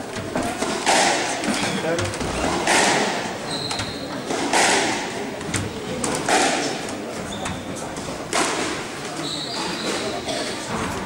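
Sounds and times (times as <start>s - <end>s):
murmured voices: 0.9s - 11.0s.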